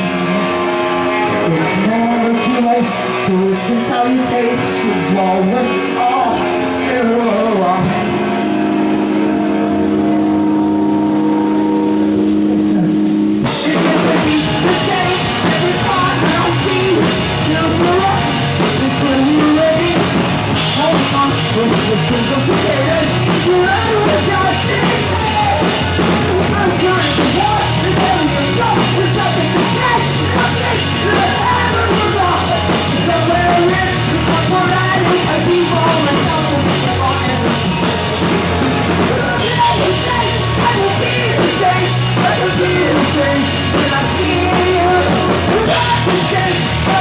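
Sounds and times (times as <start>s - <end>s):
live rock band playing: 0.0s - 47.0s
vocalist singing: 0.0s - 47.0s.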